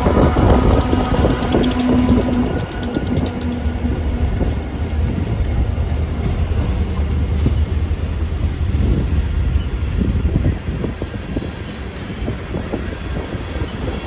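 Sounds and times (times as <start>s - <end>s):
diesel locomotives rumbling: 0.0s - 14.0s
freight cars rolling on rails: 0.0s - 14.0s.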